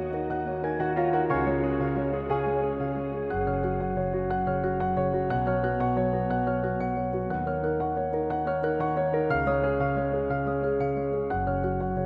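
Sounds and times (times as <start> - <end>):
soft new-age keyboard music: 0.0 - 12.0.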